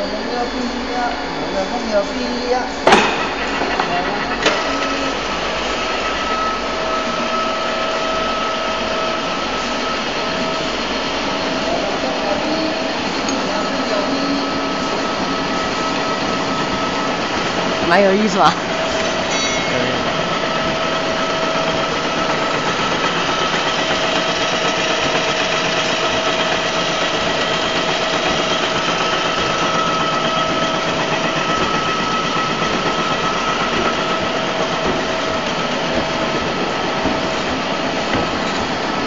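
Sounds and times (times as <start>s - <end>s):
machine-shop machinery running: 0.0s - 39.0s
mid-pitched whine: 0.0s - 39.0s.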